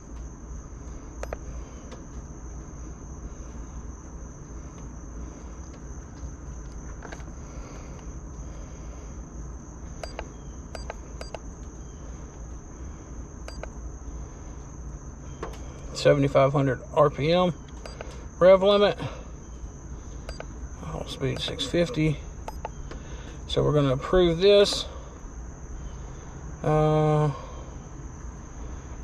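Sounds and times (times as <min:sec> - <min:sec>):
cricket chirring: 0:00.0 - 0:29.0.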